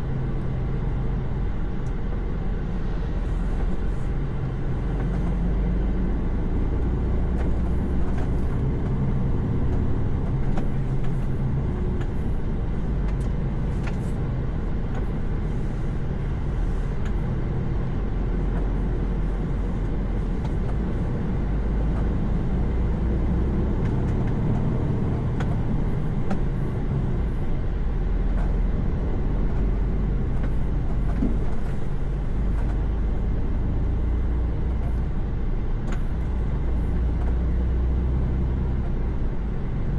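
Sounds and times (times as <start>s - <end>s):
tyre and road noise: 0.0s - 39.9s.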